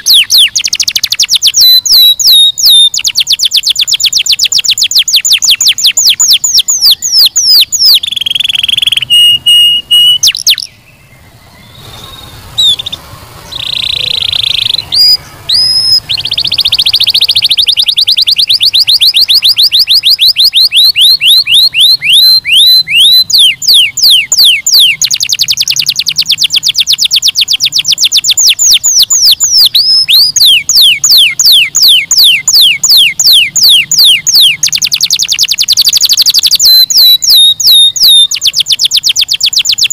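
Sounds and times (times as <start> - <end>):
canary singing in trills: 0.0 - 39.9.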